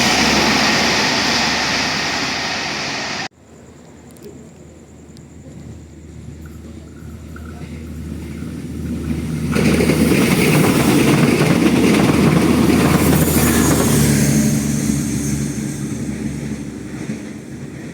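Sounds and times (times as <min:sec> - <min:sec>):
train passing with rail noise: 0:00.0 - 0:17.9.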